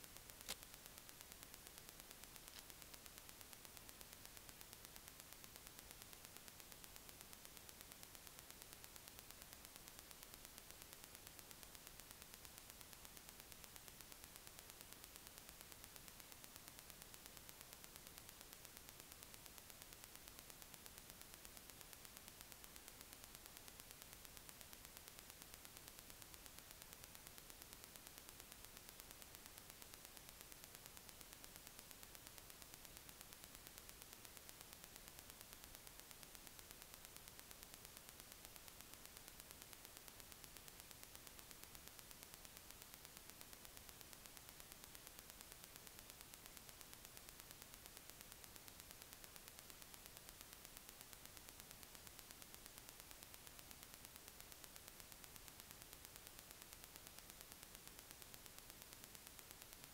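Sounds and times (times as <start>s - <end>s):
faint recording hiss: 0.0s - 59.9s.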